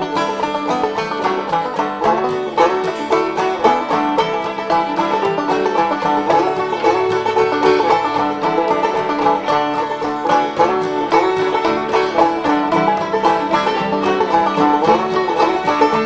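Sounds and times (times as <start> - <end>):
bluegrass banjo tune: 0.0 - 16.0.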